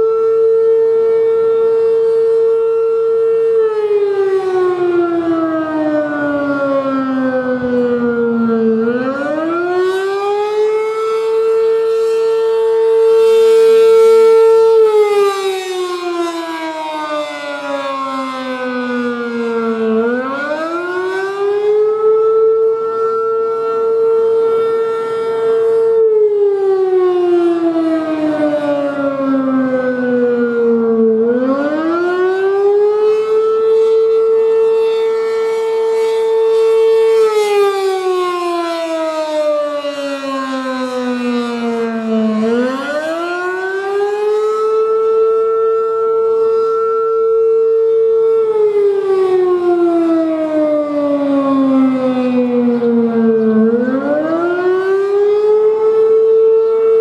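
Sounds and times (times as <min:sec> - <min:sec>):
warning siren winding up and down: 0:00.0 - 0:57.0.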